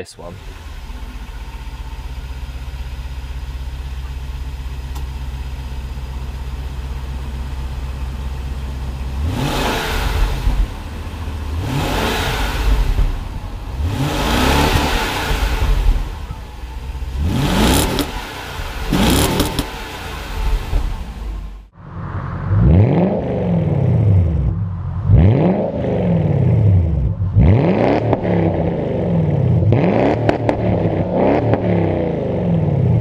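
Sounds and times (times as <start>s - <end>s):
car engine idling: 0.0s - 33.0s
car engine revving: 0.0s - 33.0s.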